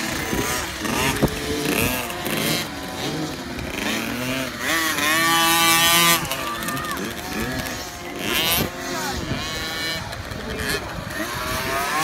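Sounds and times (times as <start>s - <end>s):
dirt bikes revving past: 0.0s - 12.0s.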